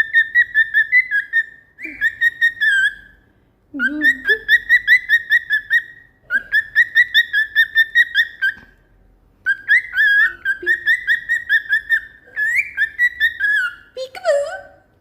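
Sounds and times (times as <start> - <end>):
cockatiel whistling: 0.0 - 3.2, 3.8 - 8.7, 9.4 - 14.0.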